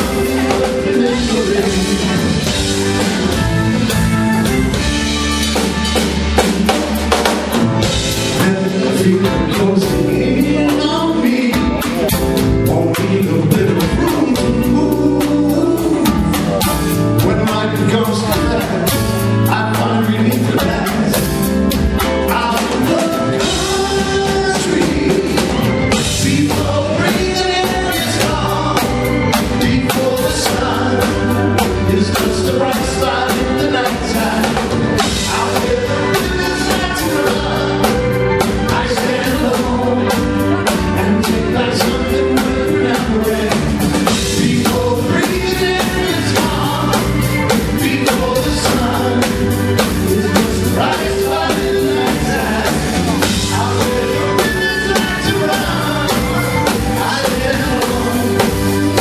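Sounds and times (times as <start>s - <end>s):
man singing lead vocal: 0.0s - 4.8s, 6.3s - 59.0s
backing vocals: 0.0s - 5.2s, 6.2s - 59.0s
drum kit beat: 0.0s - 59.0s
live band playing pop-rock: 0.0s - 59.0s.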